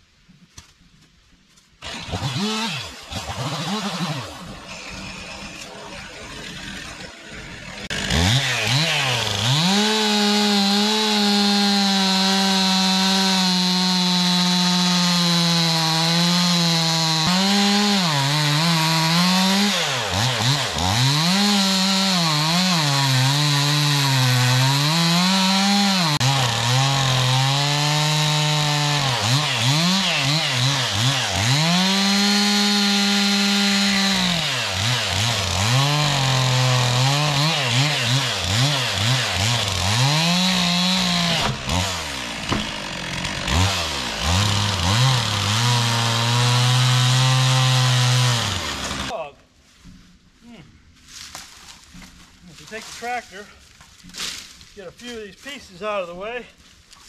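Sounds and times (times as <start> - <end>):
chainsaw cutting through wood: 1.8 - 49.3.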